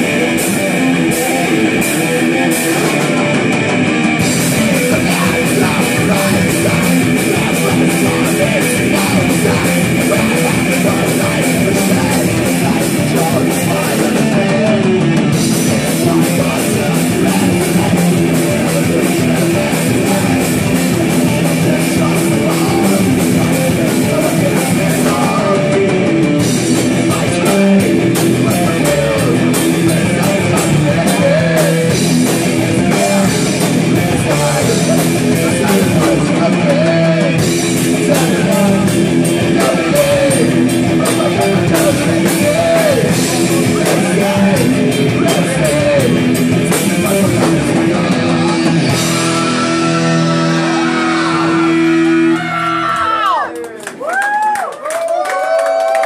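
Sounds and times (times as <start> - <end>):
metal band playing: 0.0 - 53.5.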